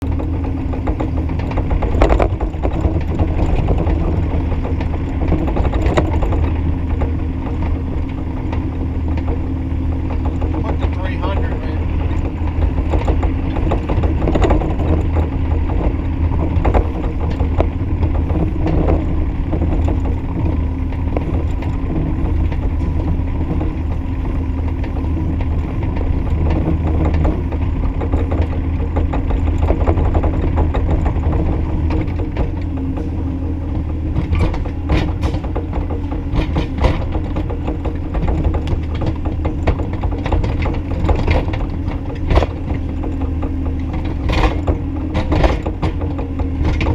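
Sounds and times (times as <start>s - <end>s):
clanks and knocks from machine: 0.0s - 46.9s
excavator engine hum: 0.0s - 46.9s.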